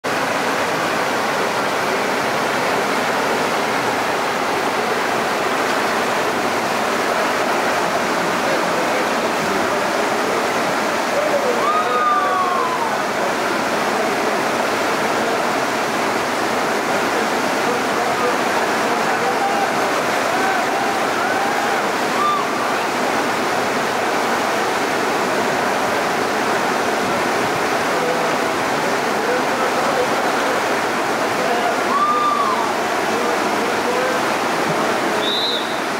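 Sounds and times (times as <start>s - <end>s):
whitewater rapids rushing: 0.0s - 35.9s.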